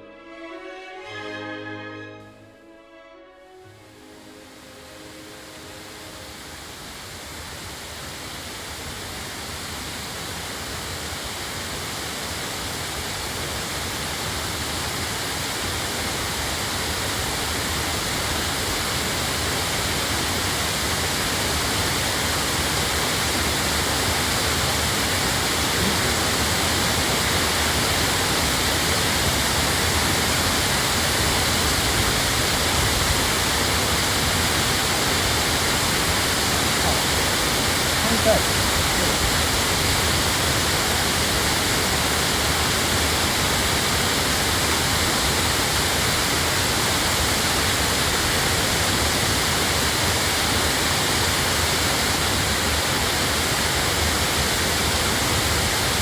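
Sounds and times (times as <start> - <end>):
waterfall rushing: 3.7 - 56.0.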